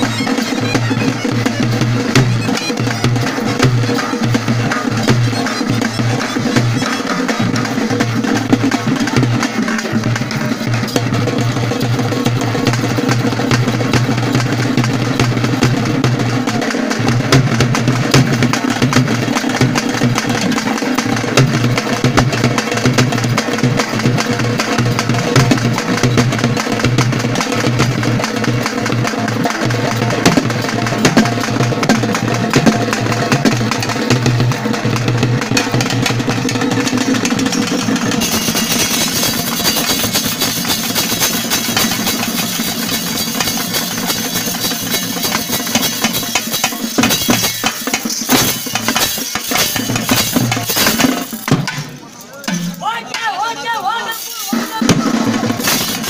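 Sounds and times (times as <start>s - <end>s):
fast drumming on barrel drums: 0.0s - 56.0s
held tones under drums: 0.0s - 56.0s.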